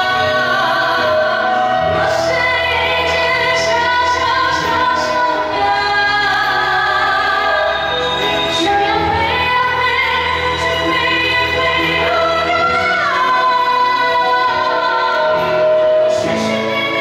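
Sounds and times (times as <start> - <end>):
woman singing pop song: 0.0 - 17.0.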